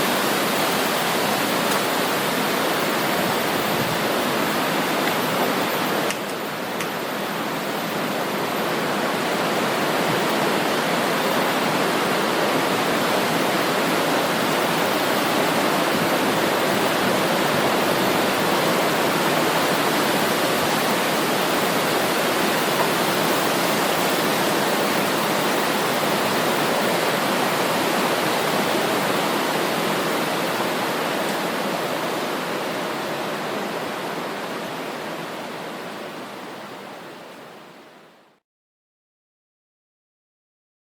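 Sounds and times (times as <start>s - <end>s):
river water rushing: 0.0s - 38.2s.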